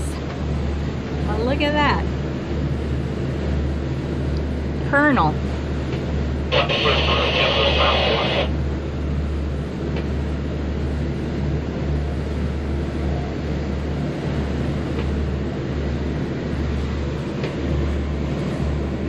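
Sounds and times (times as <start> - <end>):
boat diesel engines droning: 0.0 - 19.0.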